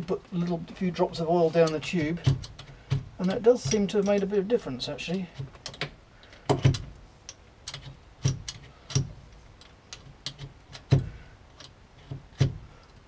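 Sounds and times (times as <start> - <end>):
gear lever metallic clicks and clunks: 0.4 - 13.0.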